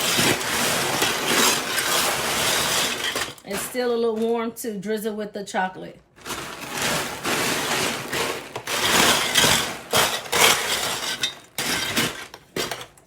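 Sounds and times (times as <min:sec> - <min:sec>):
popcorn being stirred: 0:00.0 - 0:04.3, 0:06.2 - 0:13.0.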